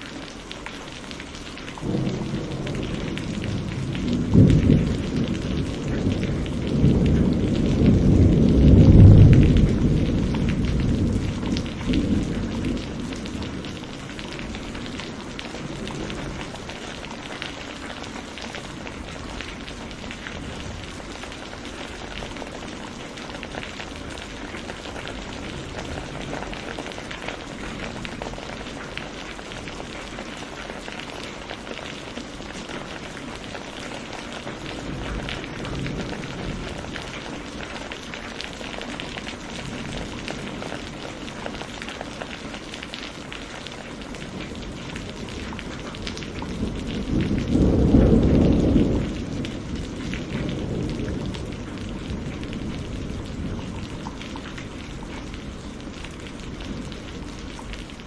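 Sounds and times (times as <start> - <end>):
steady rain falling: 0.0 - 58.0
thunder rumble: 1.8 - 30.2, 32.8 - 42.6, 44.2 - 58.0.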